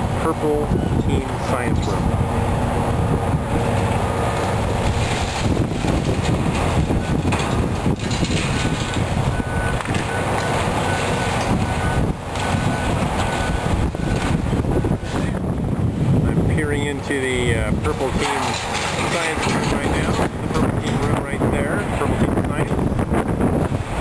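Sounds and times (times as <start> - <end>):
excavator working: 0.0 - 24.0
wind buffeting microphone: 0.0 - 24.0.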